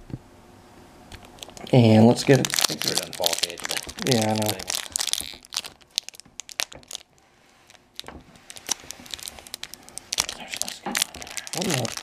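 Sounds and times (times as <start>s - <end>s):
foil wrapper crinkling and tearing: 1.1s - 12.0s.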